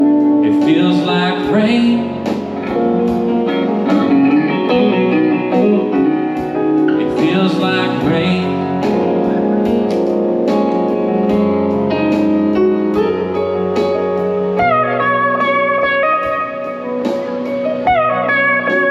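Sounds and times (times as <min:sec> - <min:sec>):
duo playing a slow song: 0:00.0 - 0:18.9
guitar: 0:00.0 - 0:18.9.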